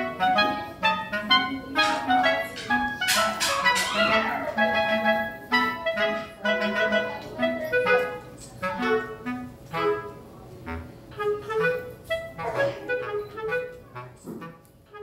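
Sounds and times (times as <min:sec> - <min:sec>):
light background melody: 0:00.0 - 0:10.3, 0:11.1 - 0:15.0.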